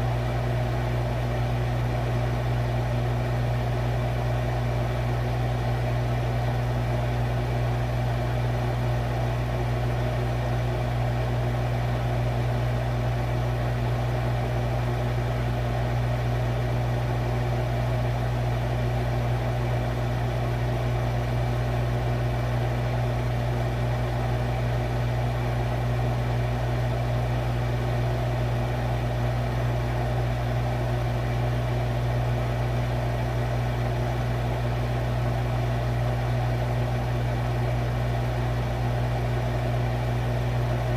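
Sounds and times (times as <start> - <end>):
refrigerator humming: 0.0 - 40.9.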